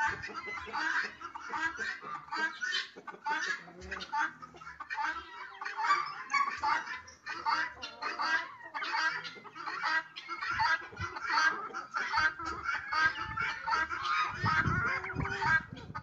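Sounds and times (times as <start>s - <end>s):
chickens clucking and squawking: 0.0s - 16.0s.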